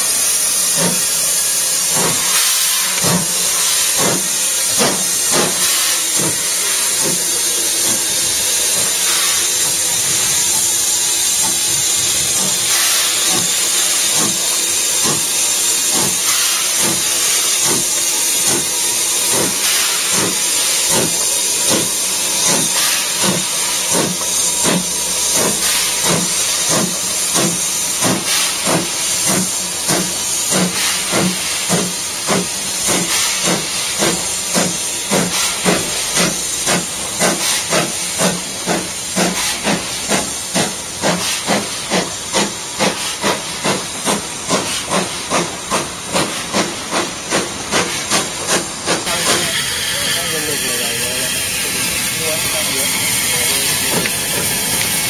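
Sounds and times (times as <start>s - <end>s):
loud hiss of steam: 0.0s - 55.0s
steam locomotive chuffing: 0.0s - 55.0s.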